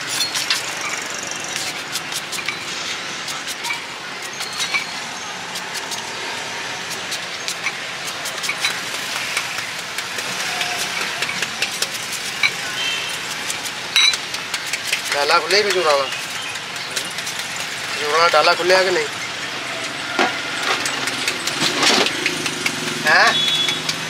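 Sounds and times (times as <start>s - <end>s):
road traffic hiss: 0.0s - 24.0s.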